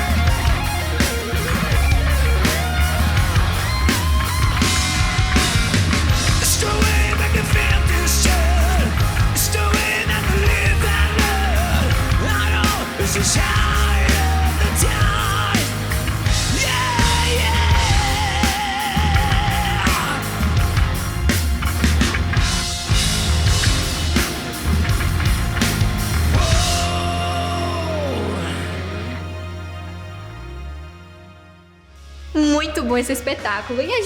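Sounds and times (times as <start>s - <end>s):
live hard rock band: 0.0s - 29.8s
high lead guitar line: 0.0s - 30.4s.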